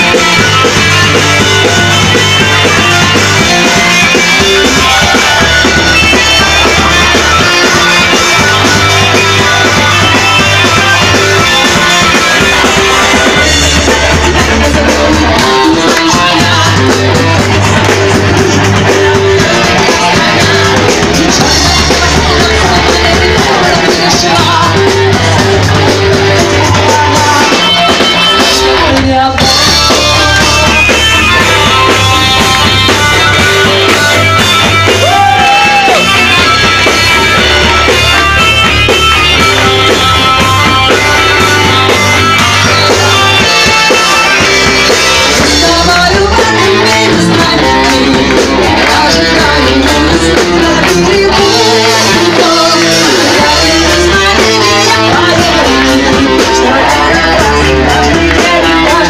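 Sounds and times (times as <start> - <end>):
metal band playing loudly: 0.0 - 59.0
person singing: 0.0 - 59.0.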